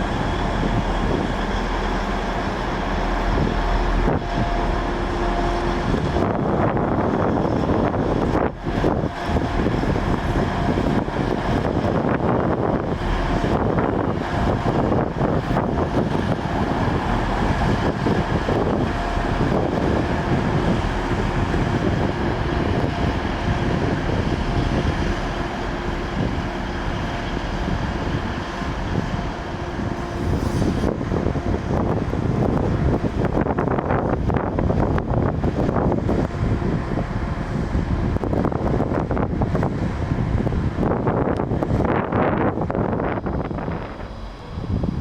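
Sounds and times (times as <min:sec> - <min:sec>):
train rumbling past: 0:00.0 - 0:45.0
wind buffeting microphone: 0:00.0 - 0:45.0.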